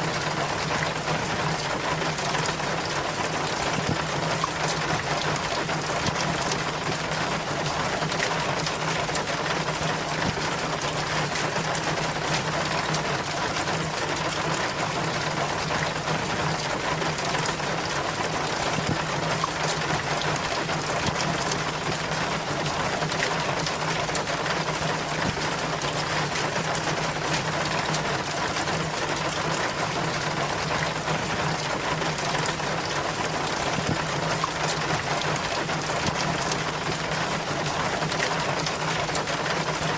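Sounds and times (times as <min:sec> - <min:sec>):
rainwater splashing and trickling: 0:00.0 - 0:39.9.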